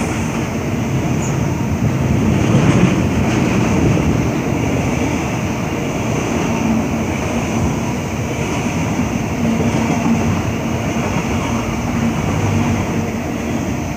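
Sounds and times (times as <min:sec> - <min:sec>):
freight train rolling past: 0:00.0 - 0:13.9.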